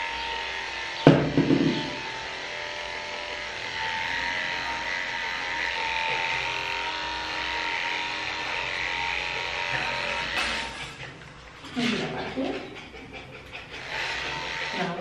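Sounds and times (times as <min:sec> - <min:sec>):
electric clippers buzzing: 0:00.0 - 0:12.1, 0:13.7 - 0:15.0.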